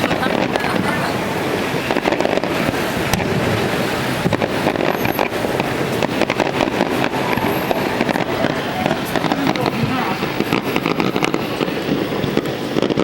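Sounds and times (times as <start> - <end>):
fireworks bangs and crackles: 0.0 - 13.0
rumble of fireworks bursts: 0.0 - 13.0.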